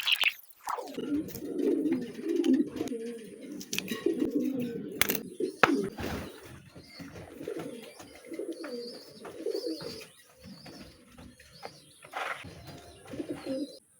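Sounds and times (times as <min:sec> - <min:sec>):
pigeons cooing: 0:00.1 - 0:13.9.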